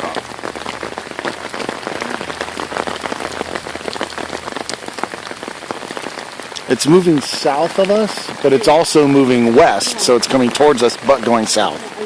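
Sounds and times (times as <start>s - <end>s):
heavy rain hitting microphone: 0.0s - 12.0s.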